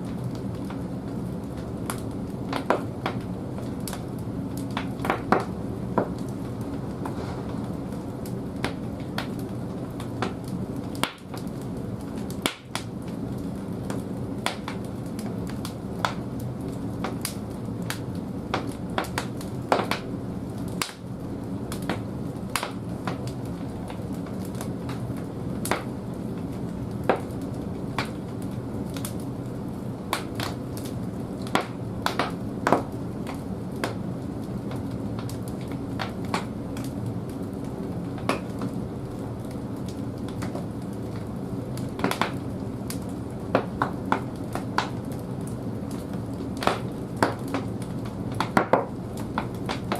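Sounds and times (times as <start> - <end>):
burning wood crackling and popping: 0.0 - 49.9
low rumble of fire: 0.0 - 49.9.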